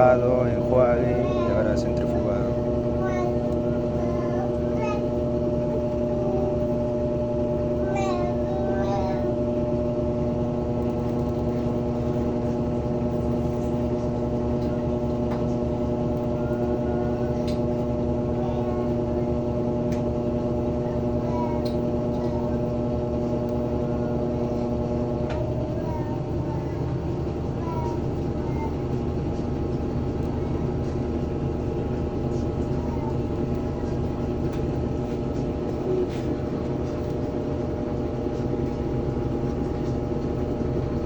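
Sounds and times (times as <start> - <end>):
washing machine spinning: 0.0 - 41.0.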